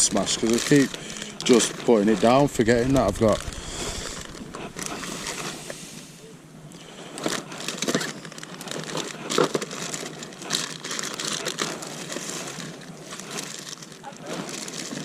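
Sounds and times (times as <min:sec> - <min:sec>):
crinkling and rustling handling: 0:00.0 - 0:15.0.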